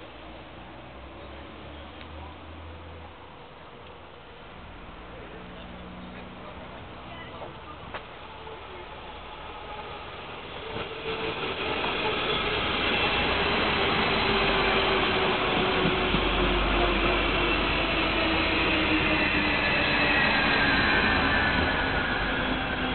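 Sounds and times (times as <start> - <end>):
diesel train rumbling: 0.0 - 22.9.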